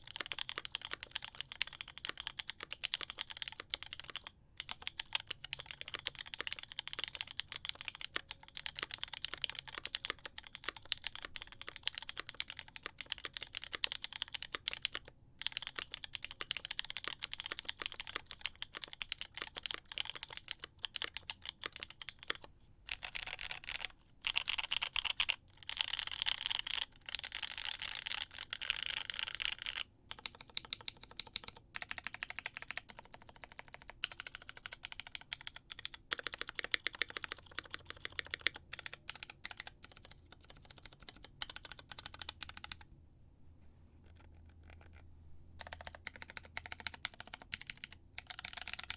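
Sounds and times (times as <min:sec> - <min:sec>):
fast typing on mechanical keyboard: 0:00.0 - 0:42.9, 0:44.1 - 0:45.0, 0:45.6 - 0:48.9.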